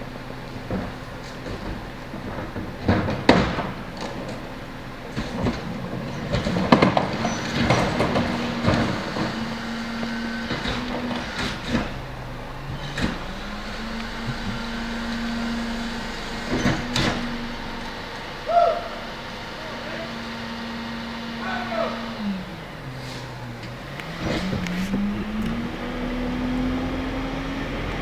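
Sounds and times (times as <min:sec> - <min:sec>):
trash bangs and clatters: 0:00.0 - 0:21.7, 0:22.6 - 0:27.1
garbage truck hum: 0:00.0 - 0:28.0.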